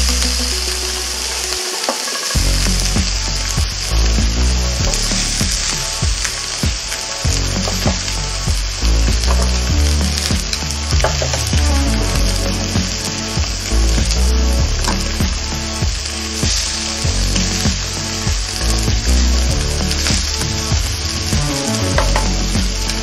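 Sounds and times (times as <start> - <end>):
meat and vegetables sizzling: 0.0 - 23.0.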